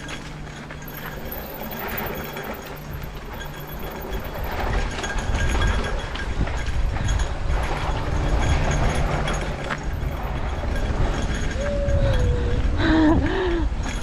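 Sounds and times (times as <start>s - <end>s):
bike tyres on dirt: 0.0s - 11.8s
bike rattling: 0.0s - 14.0s
wind rumbling on microphone: 0.0s - 14.0s.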